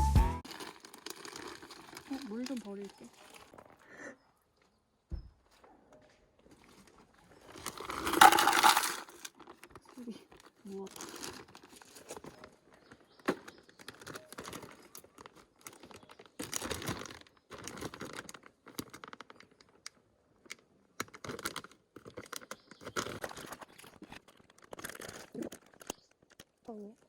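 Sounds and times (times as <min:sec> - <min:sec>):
plastic crinkling and rustling: 0:00.4 - 0:04.0, 0:06.4 - 0:26.8.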